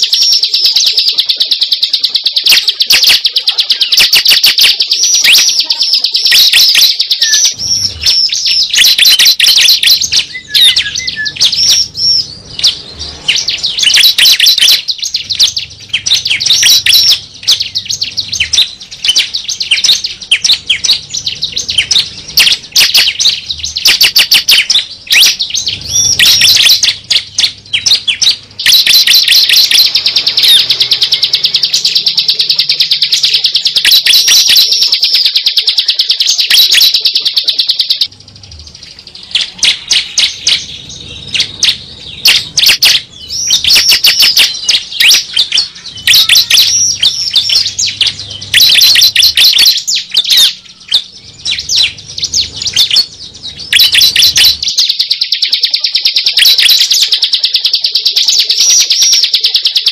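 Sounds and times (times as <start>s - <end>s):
bird high chirps and trill: 0.0s - 59.9s.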